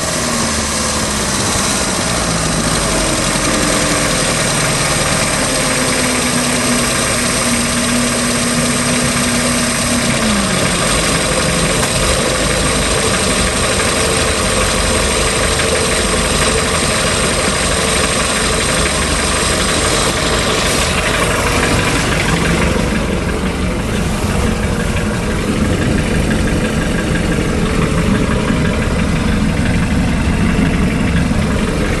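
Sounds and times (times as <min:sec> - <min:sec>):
boat engine idling with ticking: 0:00.0 - 0:32.0.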